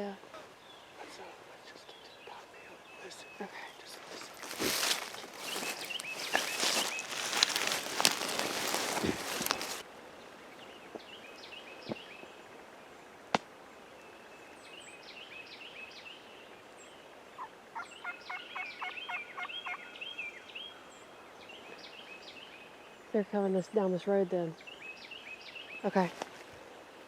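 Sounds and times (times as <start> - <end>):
small birds chirping faintly: 0.0 - 27.0.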